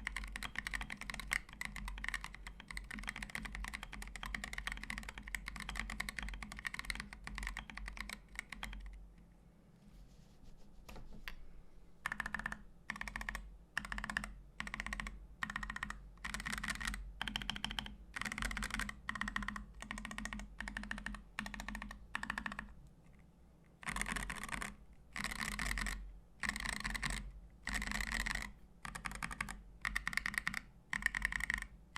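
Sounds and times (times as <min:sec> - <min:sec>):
mechanical keyboard typing: 0:00.0 - 0:09.0, 0:12.0 - 0:22.8, 0:23.8 - 0:31.8.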